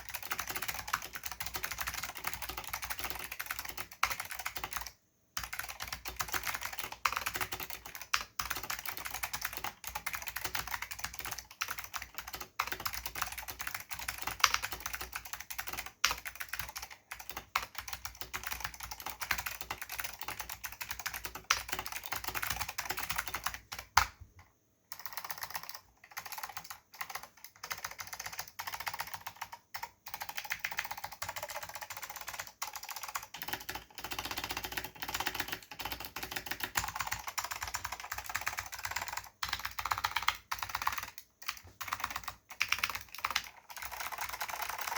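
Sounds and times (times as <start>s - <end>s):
fast typing on mechanical keyboard: 0.0s - 24.2s, 24.9s - 44.9s.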